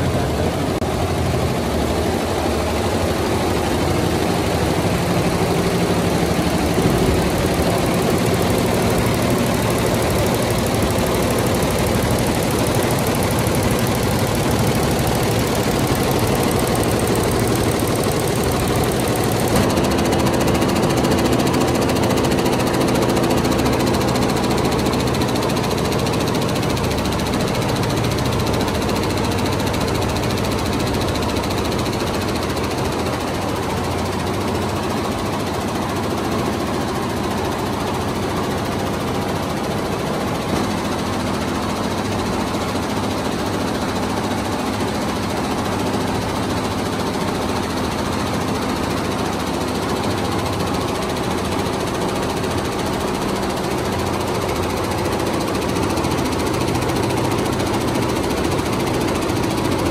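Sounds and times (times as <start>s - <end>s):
embroidery machine stitching: 2.0s - 59.9s.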